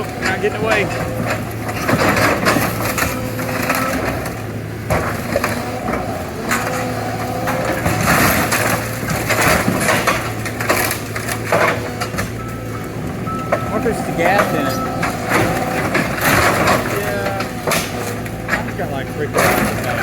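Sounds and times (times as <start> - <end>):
excavator engine hum: 0.0 - 20.0
hydraulic whine: 0.0 - 20.0
metal crunching and creaking: 0.0 - 20.0.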